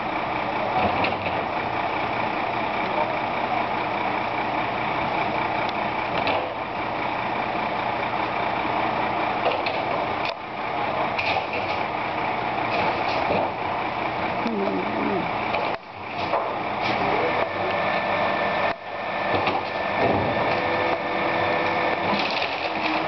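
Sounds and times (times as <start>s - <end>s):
garbage truck engine running: 0.0s - 23.0s.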